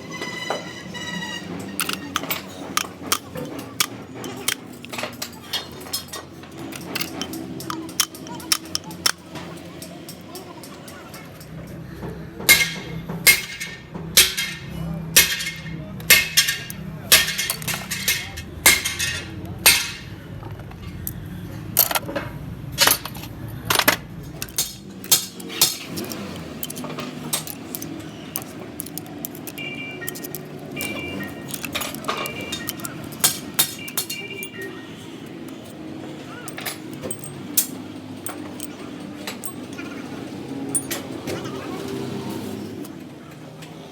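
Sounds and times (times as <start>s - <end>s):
metal tools clinking: 0.1s - 11.8s, 12.5s - 41.6s.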